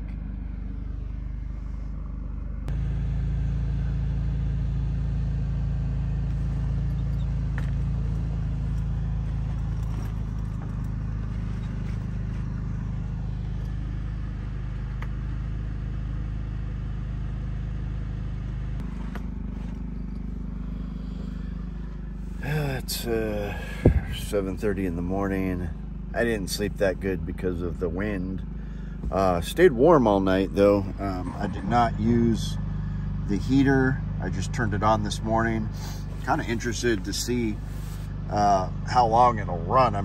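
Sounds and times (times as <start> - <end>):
generator engine humming: 0.0 - 40.0.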